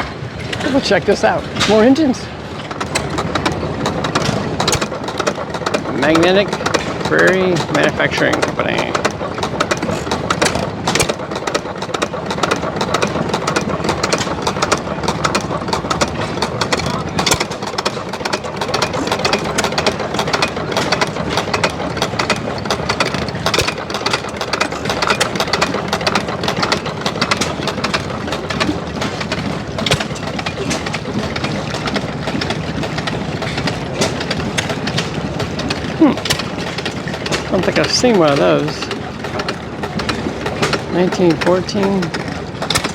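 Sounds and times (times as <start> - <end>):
stationary gas engines chugging: 0.0 - 42.9.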